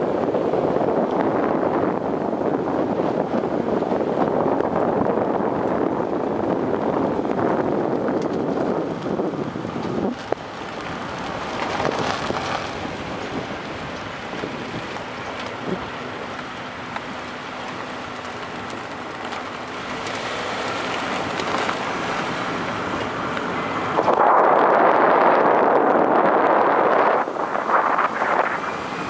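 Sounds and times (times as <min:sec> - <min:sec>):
car road and wind noise: 0:00.0 - 0:29.0.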